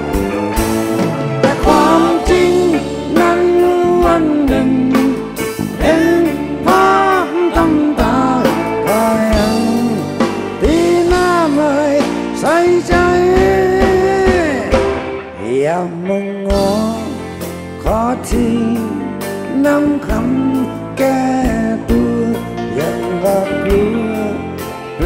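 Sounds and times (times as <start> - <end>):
live band instrumental music: 0.0 - 25.0.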